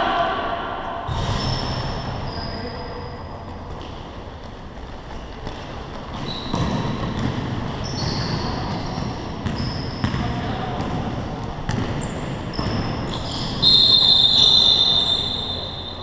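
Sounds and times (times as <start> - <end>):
sneakers squeaking on floor: 1.1 - 16.0.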